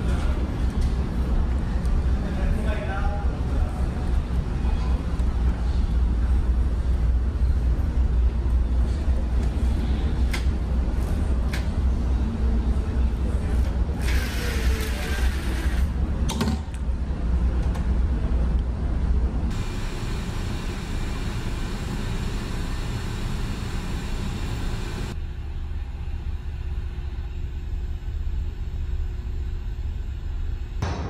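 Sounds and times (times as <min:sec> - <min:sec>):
ferry engines droning: 0:00.0 - 0:30.8.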